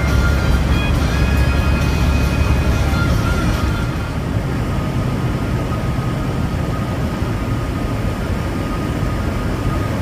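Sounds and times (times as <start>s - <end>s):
road noise inside cab: 0.0s - 10.0s
truck diesel engine drone: 0.0s - 10.0s.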